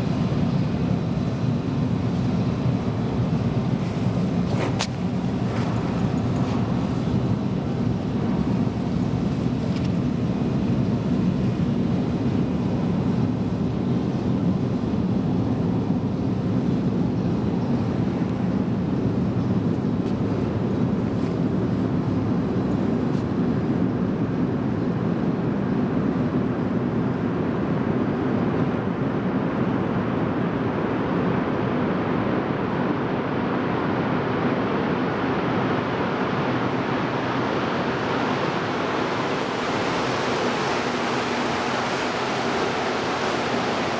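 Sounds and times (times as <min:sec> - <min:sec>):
low rumble of metro platform: 0:00.0 - 0:43.9.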